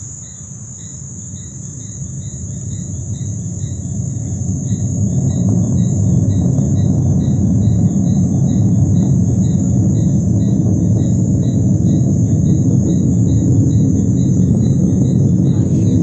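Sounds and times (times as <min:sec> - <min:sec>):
insects chirping: 0:00.0 - 0:16.0
deep rumble from the sky: 0:01.3 - 0:16.0.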